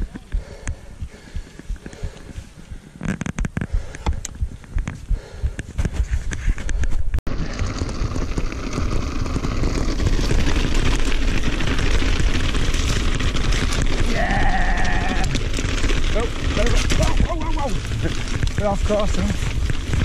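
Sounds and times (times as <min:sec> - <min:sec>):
bike tyres on gravel: 0:00.0 - 0:20.0
bike rattle: 0:00.3 - 0:20.0.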